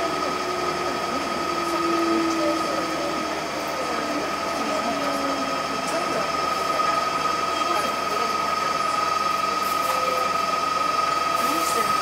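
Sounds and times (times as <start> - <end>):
electric train running slowly: 0.0 - 12.0.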